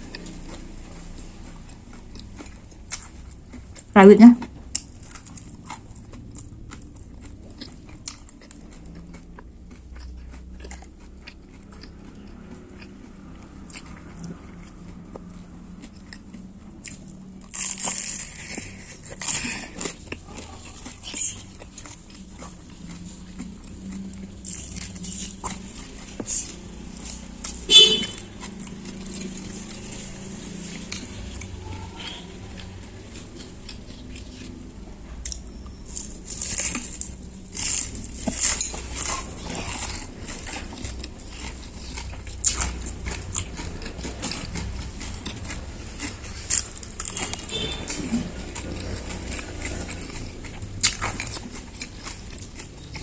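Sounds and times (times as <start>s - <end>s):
crunchy biting and chewing: 0.0s - 53.0s.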